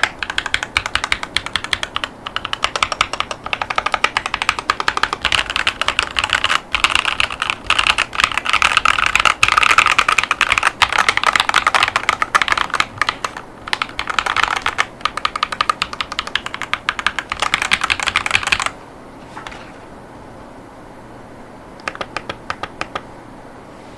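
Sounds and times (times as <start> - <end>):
mechanical keyboard typing: 0.0 - 18.7, 21.8 - 23.0.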